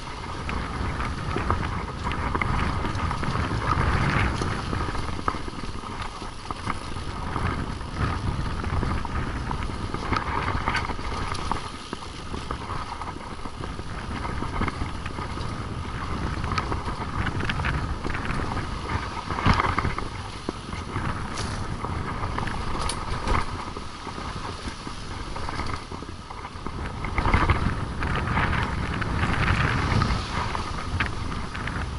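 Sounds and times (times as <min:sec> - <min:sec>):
bike clattering over bumps: 0:00.0 - 0:31.9
tyres rumbling on dirt: 0:00.0 - 0:31.9
wind buffeting microphone: 0:00.0 - 0:31.9.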